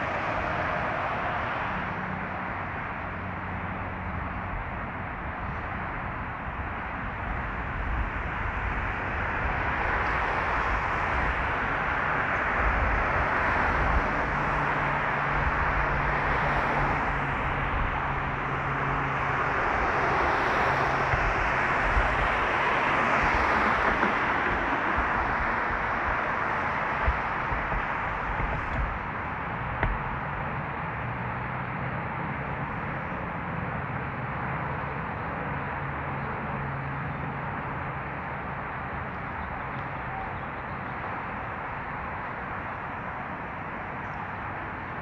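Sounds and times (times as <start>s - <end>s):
traffic noise: 0.0s - 45.0s
low engine hum: 1.2s - 45.0s.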